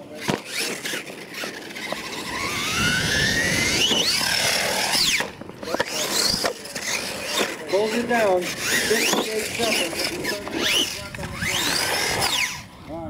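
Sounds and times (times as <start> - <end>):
rc truck motor whining: 0.0 - 13.0.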